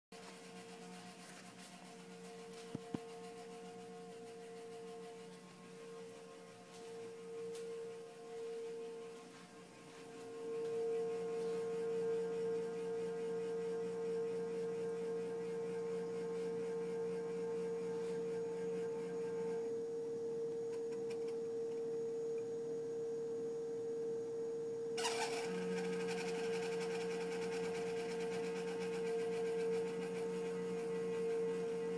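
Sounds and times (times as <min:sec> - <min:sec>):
refrigerator whining hum: 0:00.2 - 0:31.9.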